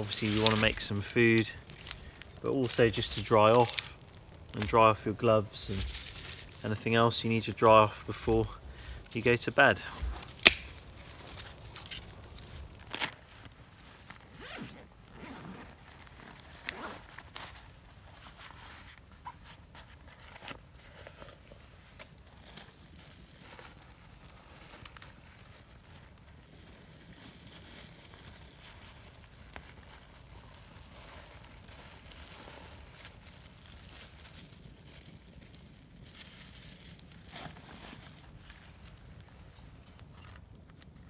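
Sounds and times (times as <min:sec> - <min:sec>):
rustling in a canvas bag: 0:00.0 - 0:41.0.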